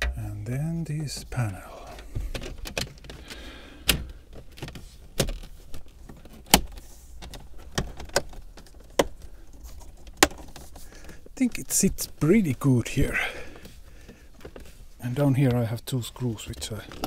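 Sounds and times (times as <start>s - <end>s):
handling rustle: 0.8s - 17.0s.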